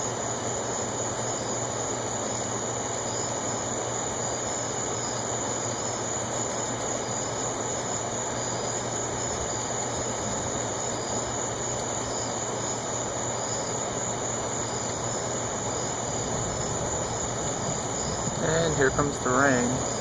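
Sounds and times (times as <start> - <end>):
faint insect chirps: 0.0 - 20.0
insects trilling: 0.0 - 20.0
low hiss: 0.1 - 20.0.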